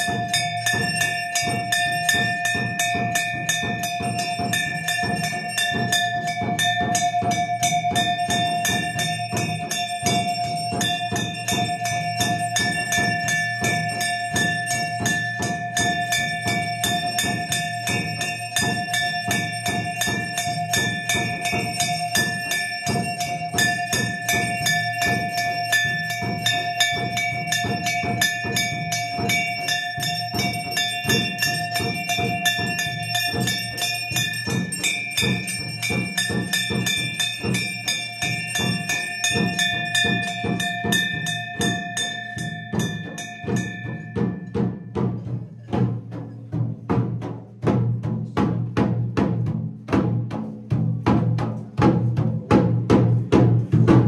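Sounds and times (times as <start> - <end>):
bells ringing: 0.0 - 46.3
fast drumbeat: 0.0 - 54.0.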